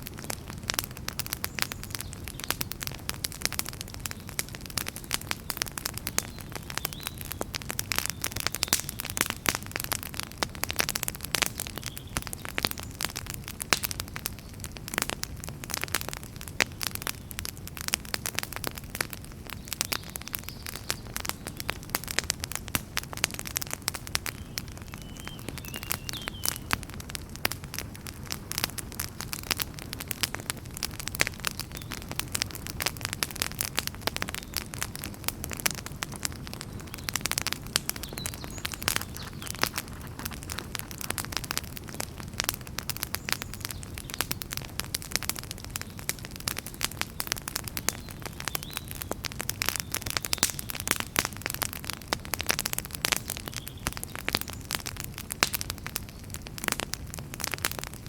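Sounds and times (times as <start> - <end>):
fire crackling: 0.0 - 58.0.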